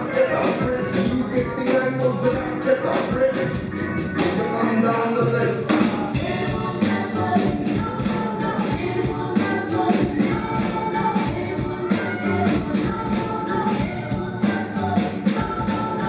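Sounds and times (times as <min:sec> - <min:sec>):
drums keeping a steady beat: 0:00.0 - 0:04.6, 0:05.6 - 0:16.0
live rock band playing: 0:00.0 - 0:16.0.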